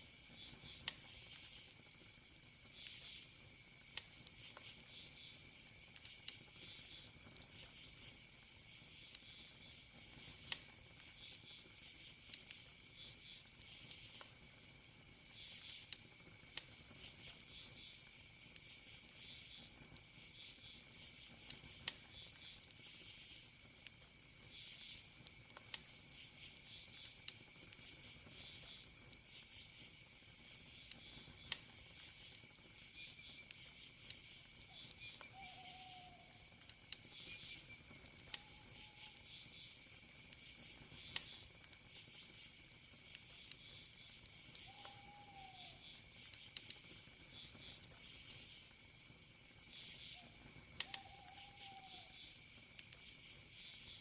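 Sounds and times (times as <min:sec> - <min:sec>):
campfire crackling and popping: 0:00.0 - 0:54.0
cricket trill: 0:00.0 - 0:54.0
pulsing night insects: 0:00.0 - 0:54.0.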